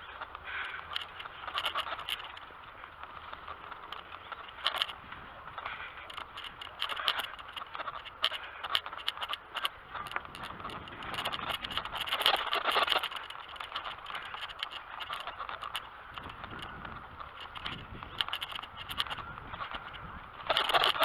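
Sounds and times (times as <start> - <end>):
bicycle rattling and clicking: 0.0 - 21.0
tyre noise: 0.0 - 21.0.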